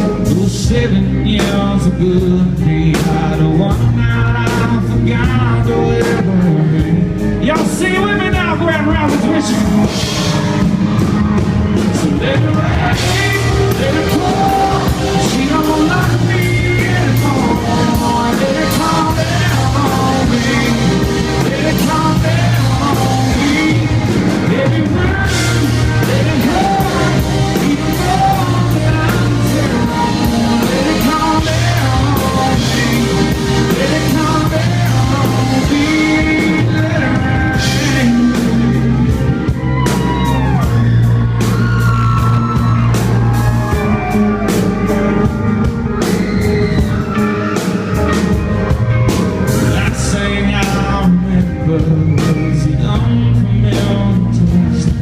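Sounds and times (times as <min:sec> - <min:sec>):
live country rock band: 0:00.0 - 0:55.0.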